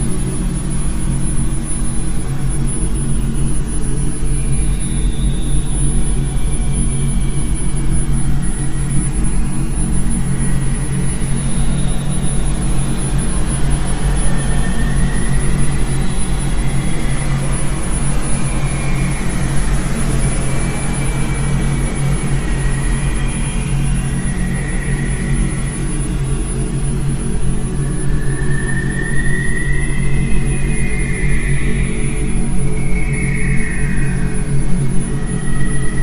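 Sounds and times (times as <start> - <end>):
faint wavering high tones: 0.0 - 36.0.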